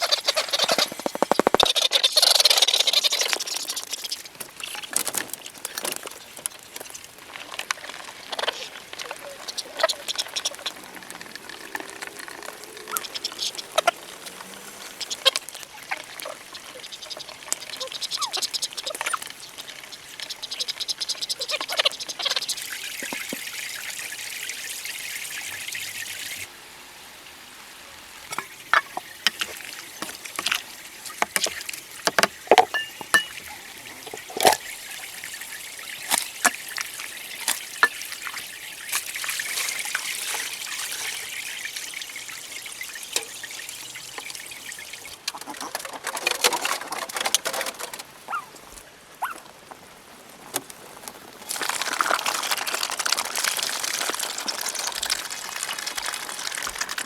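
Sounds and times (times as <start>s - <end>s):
rush of water: 0.0s - 20.6s, 21.2s - 57.0s
water pouring and trickling: 0.0s - 57.0s.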